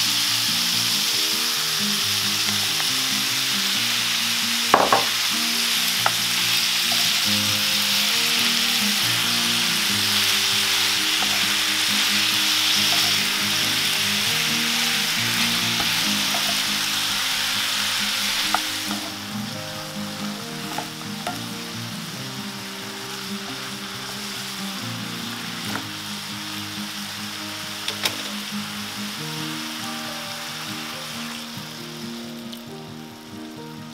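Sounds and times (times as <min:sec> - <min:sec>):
food sizzling in oil: 0:00.0 - 0:33.9.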